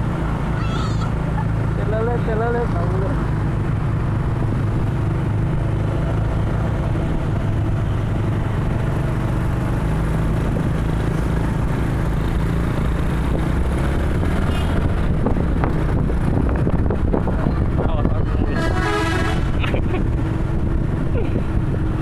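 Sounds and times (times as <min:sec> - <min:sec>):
heavy vehicle engine humming: 0:00.0 - 0:22.0.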